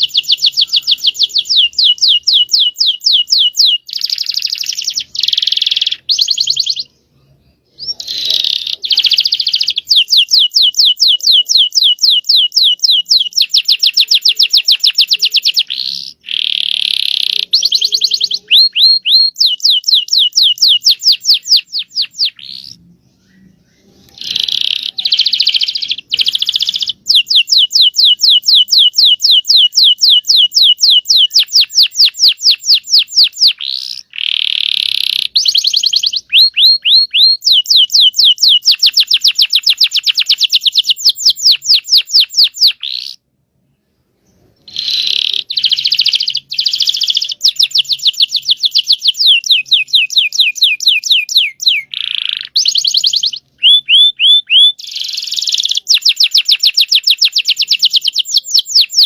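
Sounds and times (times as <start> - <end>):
canary singing trills: 0.0 - 43.2, 44.3 - 59.0.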